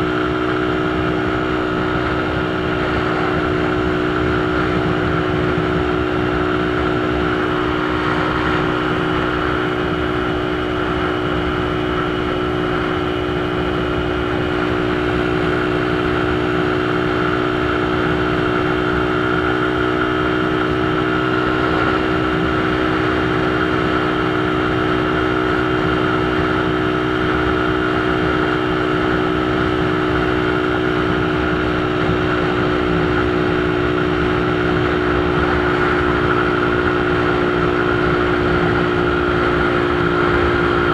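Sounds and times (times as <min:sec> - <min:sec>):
motorcycle engine running: 0:00.0 - 0:40.9
steady rush of noise: 0:00.0 - 0:40.9.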